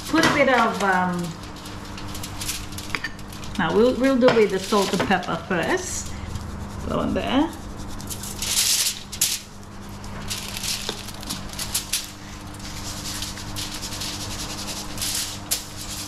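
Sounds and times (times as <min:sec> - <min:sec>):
shaker hissing rattles: 0:00.0 - 0:16.0.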